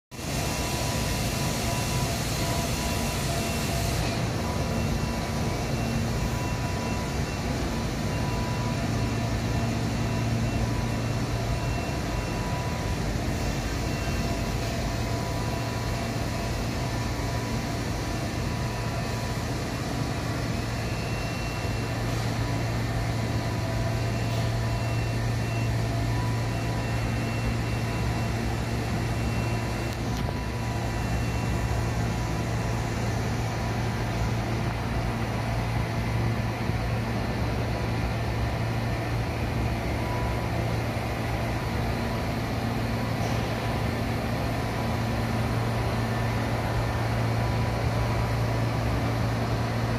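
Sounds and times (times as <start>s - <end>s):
laundry machinery drone: 0.1s - 49.9s.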